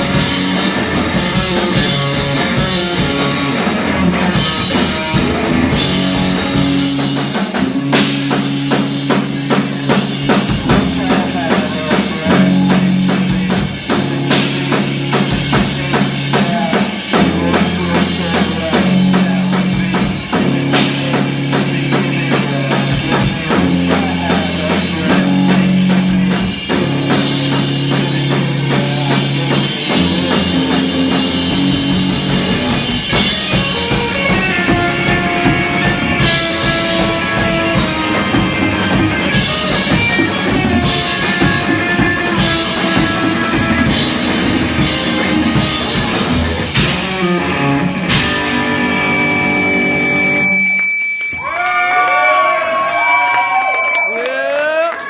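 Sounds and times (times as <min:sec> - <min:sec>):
bass notes: 0:00.0 - 0:53.0
electric guitar: 0:00.0 - 0:54.3
drum kit beat: 0:00.0 - 0:55.0.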